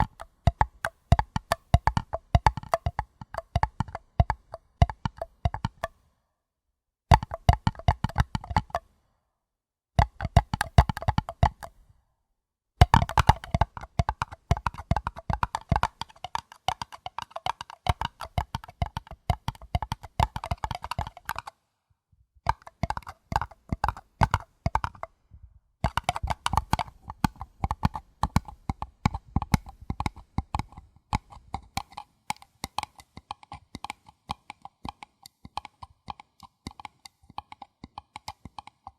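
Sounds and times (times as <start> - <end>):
quick tapping on paper cup: 0.0 - 6.0, 7.1 - 8.9, 10.0 - 11.8, 12.8 - 21.6, 22.5 - 25.2, 25.8 - 38.9.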